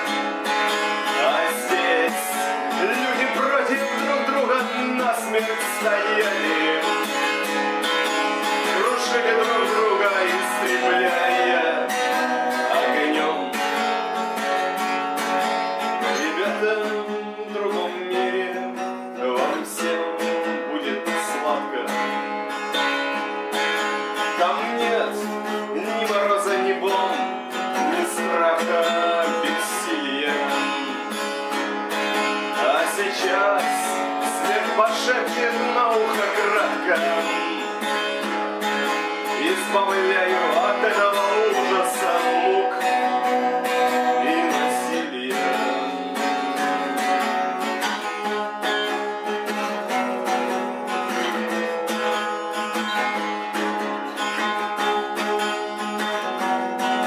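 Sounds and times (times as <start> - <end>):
song with strummed acoustic guitar: 0.0 - 57.0.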